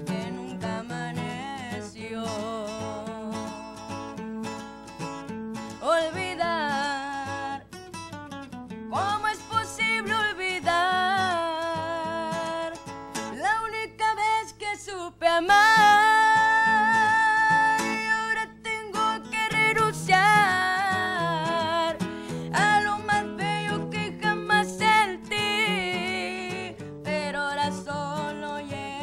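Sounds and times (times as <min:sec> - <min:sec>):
woman singing with vibrato: 0:00.0 - 0:04.8, 0:05.8 - 0:07.8, 0:08.9 - 0:29.0
acoustic guitar: 0:00.0 - 0:29.0.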